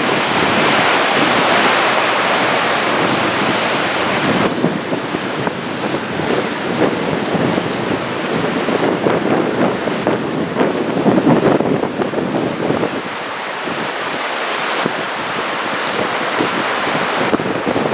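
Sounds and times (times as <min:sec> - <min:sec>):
surf breaking and washing: 0:00.0 - 0:17.9
wind buffeting microphone: 0:00.0 - 0:17.9.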